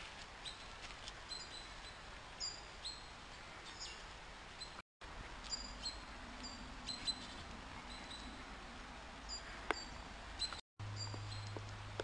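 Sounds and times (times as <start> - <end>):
small birds chirping: 0.4 - 12.0.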